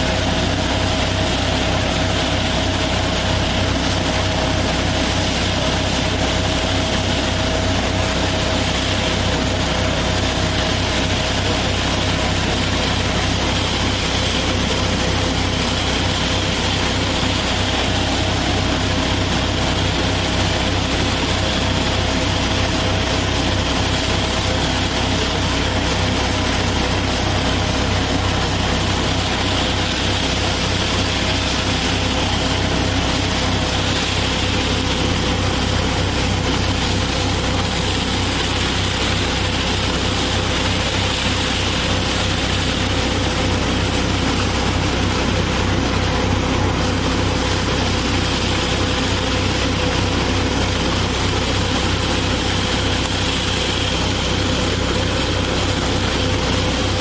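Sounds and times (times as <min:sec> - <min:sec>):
tractor engine low hum: 0:00.0 - 0:57.0.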